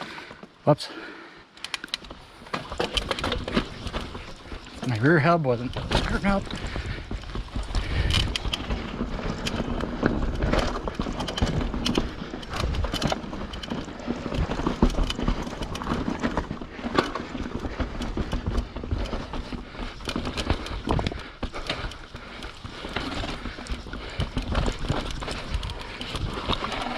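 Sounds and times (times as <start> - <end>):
bike clicking and knocking: 1.6 - 26.9
bike tyres rumbling over rock: 2.2 - 26.9.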